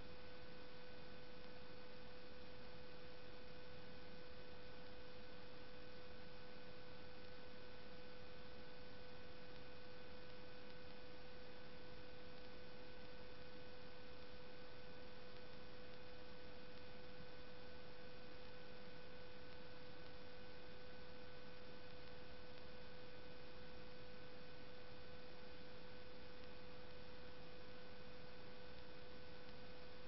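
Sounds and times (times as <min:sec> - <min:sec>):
electrical hum and hiss: 0:00.0 - 0:30.0.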